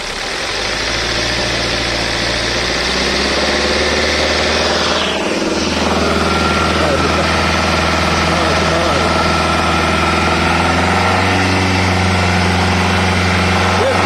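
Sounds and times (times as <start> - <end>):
car engine at raised revs: 0.0 - 14.0
engine knock: 0.0 - 14.0.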